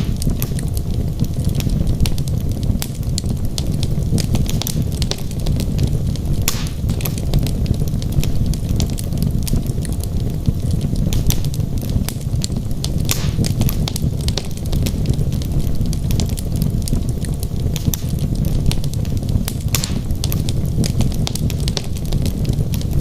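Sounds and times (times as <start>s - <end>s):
fire rumbling in fireplace: 0.0s - 23.0s
wood crackling and popping: 0.0s - 23.0s.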